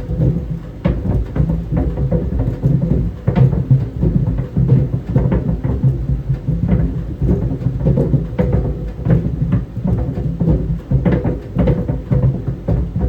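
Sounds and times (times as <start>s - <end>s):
clothes dryer rumble: 0.0s - 13.0s.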